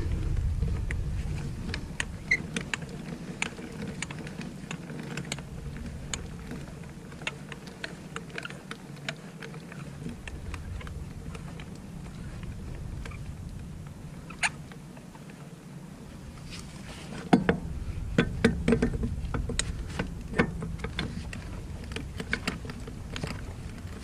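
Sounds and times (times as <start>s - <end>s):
low rumble: 0.0s - 4.7s, 5.3s - 7.2s, 9.8s - 24.0s.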